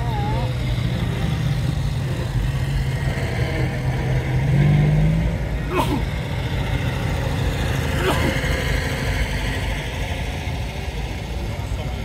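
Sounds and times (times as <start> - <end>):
car engine passing close: 0.0 - 12.0
car engines humming: 0.0 - 12.0.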